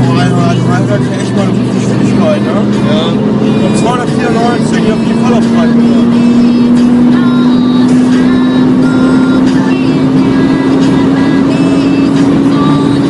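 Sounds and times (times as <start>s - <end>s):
car engine accelerating: 0.0s - 13.0s
rush of wind and road noise: 0.0s - 13.0s.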